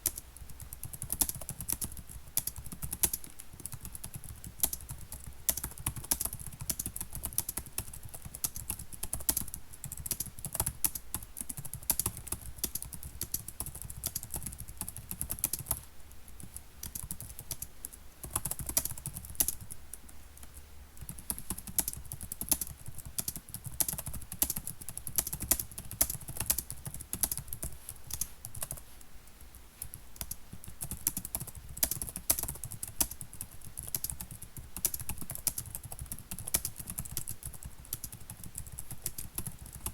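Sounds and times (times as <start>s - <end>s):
typing on computer keyboard: 0.0s - 15.8s, 16.4s - 28.8s, 29.9s - 39.9s.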